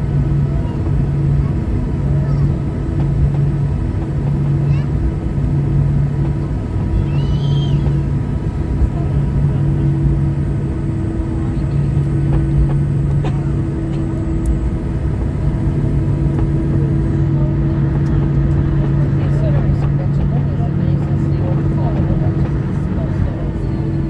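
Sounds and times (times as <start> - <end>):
jet engines idling: 0.0 - 24.0
wheels rumbling: 0.0 - 24.0.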